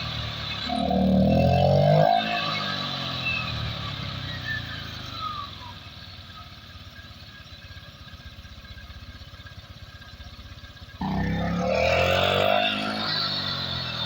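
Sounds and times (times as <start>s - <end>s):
scooter engine idling and revving: 0.0s - 14.0s.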